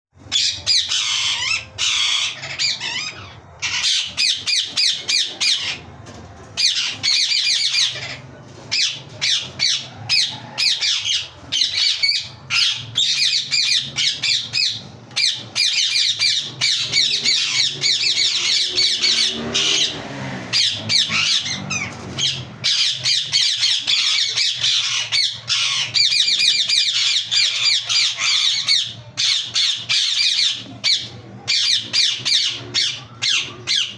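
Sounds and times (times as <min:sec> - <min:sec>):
parakeet screeching: 0:00.2 - 0:05.9, 0:06.6 - 0:33.9.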